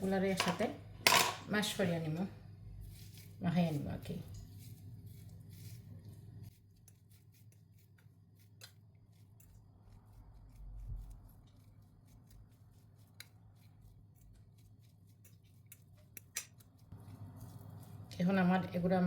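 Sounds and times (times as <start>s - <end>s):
potato being mashed in a bowl: 0.0s - 19.0s.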